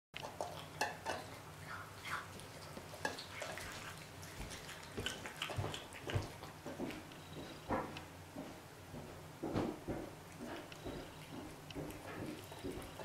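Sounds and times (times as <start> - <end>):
cat chewing and licking: 0.2 - 8.5, 9.8 - 13.0.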